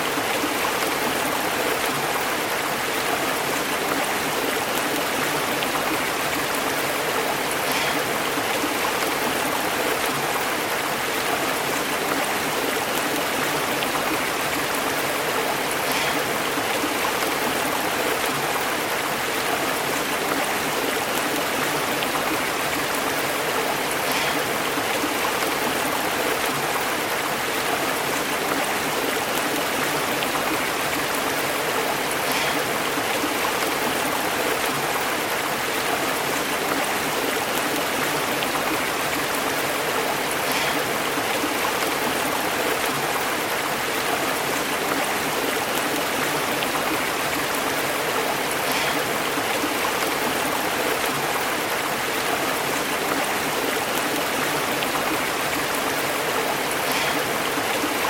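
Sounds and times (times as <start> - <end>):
stream burbling over rocks: 0.0 - 58.0.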